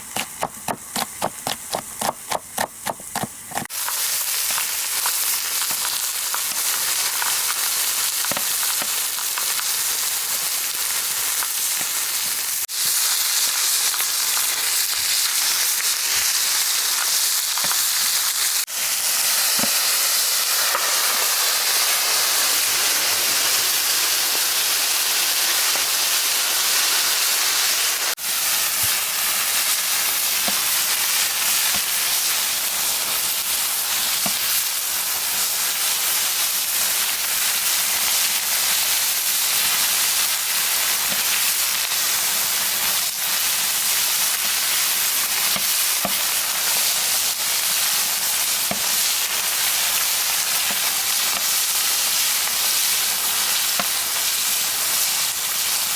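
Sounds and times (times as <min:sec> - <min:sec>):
food sizzling in fat: 0:00.0 - 0:55.9.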